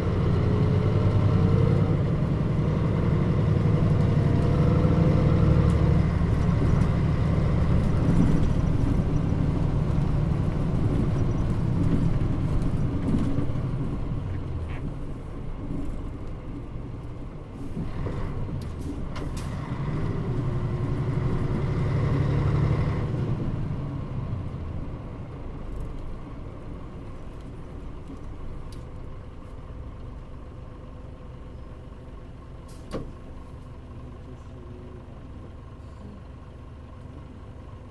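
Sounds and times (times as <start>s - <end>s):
bus engine running: 0.0s - 37.9s.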